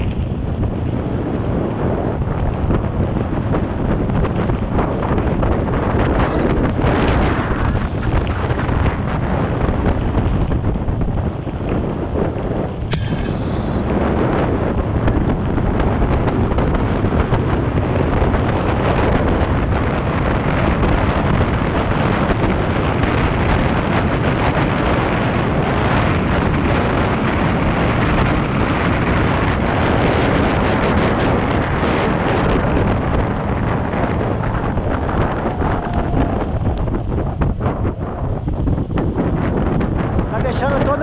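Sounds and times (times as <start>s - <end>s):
bike tyres rolling on dirt: 0.0s - 41.0s
wind rush on microphone: 0.0s - 41.0s.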